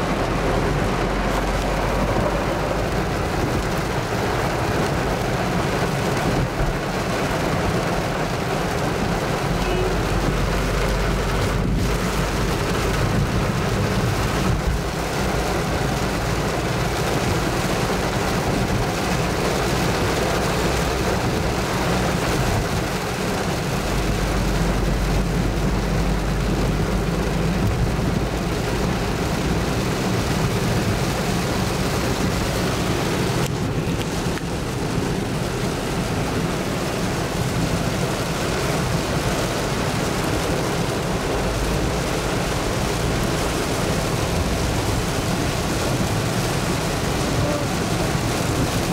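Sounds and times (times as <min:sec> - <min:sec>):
heavy rain drumming on car roof: 0:00.0 - 0:48.9
low rumble of moving car: 0:00.0 - 0:48.9.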